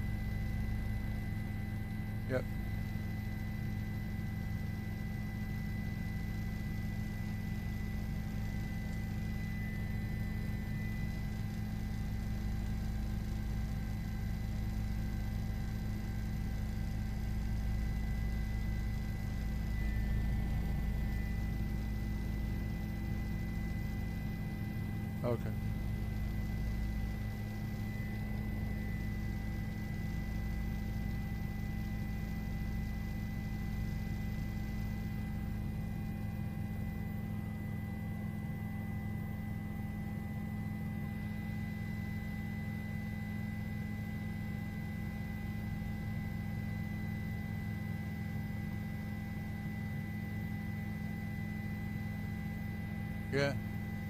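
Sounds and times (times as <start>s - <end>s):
helicopter cabin drone: 0.0s - 54.0s.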